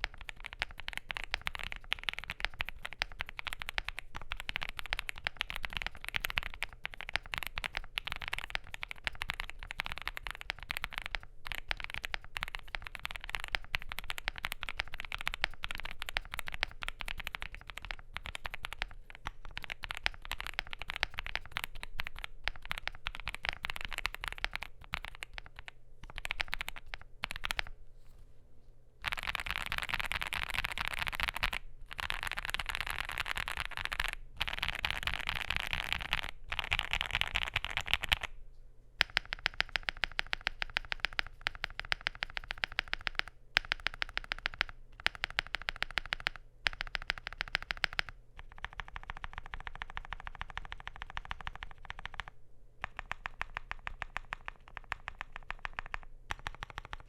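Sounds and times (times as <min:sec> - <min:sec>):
mechanical keyboard typing: 0:00.0 - 0:27.7, 0:29.0 - 0:38.3, 0:39.0 - 0:57.0.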